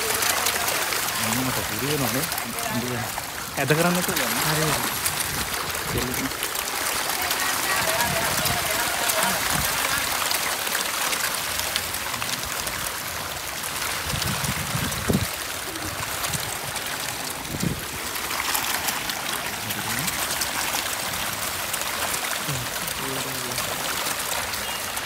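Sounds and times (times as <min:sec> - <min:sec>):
fish splashing at surface: 0:00.0 - 0:25.0.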